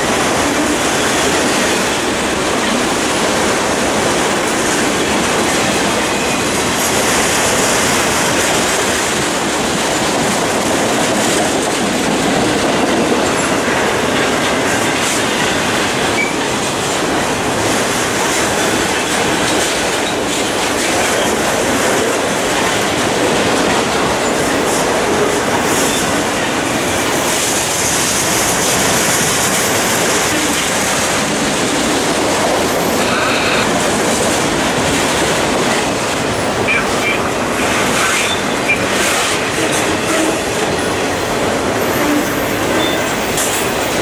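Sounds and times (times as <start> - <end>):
freight cars rolling on rails: 0.0 - 44.0.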